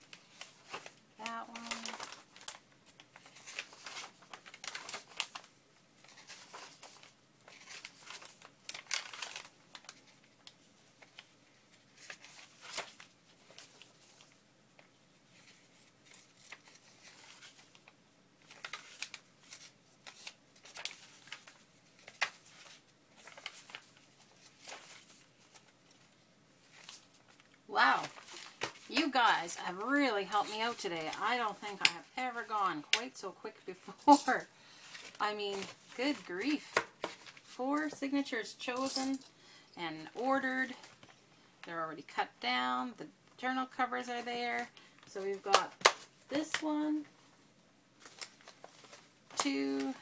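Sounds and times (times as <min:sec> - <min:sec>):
paper rustling and shuffling: 0:00.0 - 0:39.2, 0:48.0 - 0:50.0.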